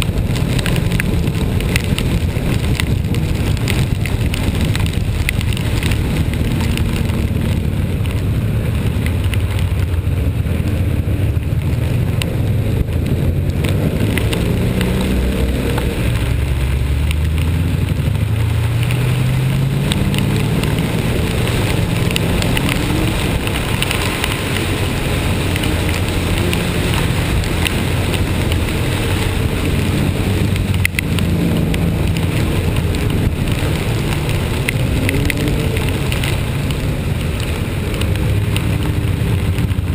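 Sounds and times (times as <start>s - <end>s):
rain and wind noise: 0.0s - 39.9s
vehicle engine accelerating: 0.0s - 39.9s.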